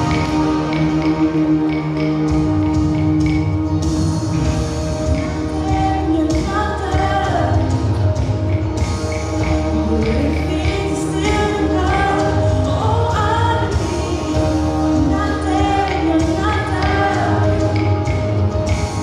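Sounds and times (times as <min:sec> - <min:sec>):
instrumental backing with bass: 0:00.0 - 0:19.0.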